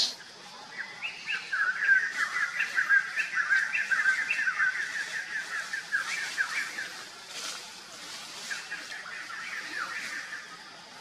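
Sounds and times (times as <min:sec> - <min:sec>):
songbird chirping and whistling: 0:00.0 - 0:07.6, 0:08.2 - 0:10.7.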